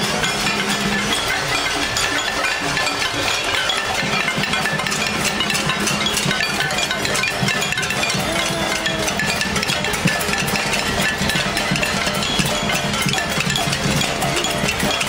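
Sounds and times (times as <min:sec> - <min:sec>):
crowd banging pots and pans: 0:00.0 - 0:15.0.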